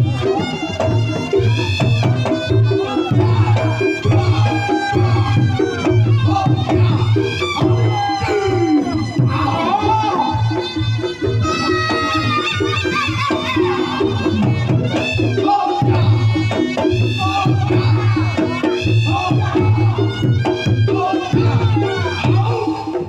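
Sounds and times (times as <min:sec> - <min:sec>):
hand drumming: 0:00.0 - 0:23.0
repeating percussion pattern: 0:00.0 - 0:23.0
shawm melody: 0:00.0 - 0:23.0.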